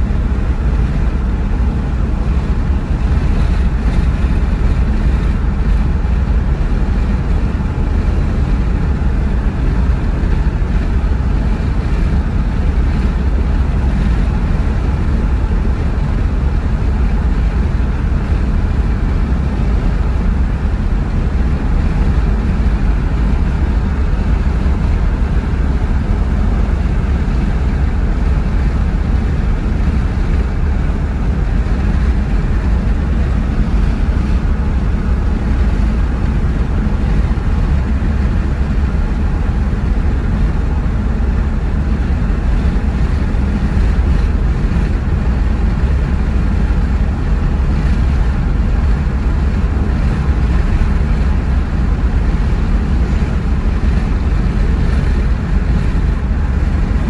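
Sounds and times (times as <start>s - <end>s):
car tyre and engine rumble: 0.0s - 57.0s
rushing air: 0.0s - 57.0s.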